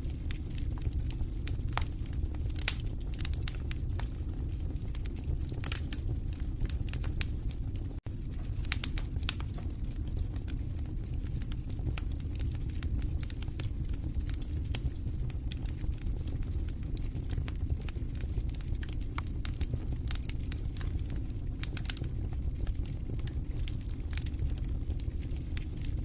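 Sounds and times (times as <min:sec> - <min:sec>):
fire crackling and popping: 0:00.0 - 0:26.0
fire flames rumbling: 0:00.0 - 0:26.0.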